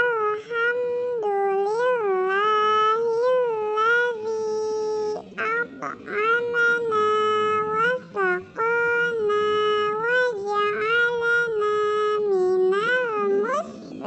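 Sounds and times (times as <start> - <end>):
high-pitched voice chanting: 0.0 - 14.0.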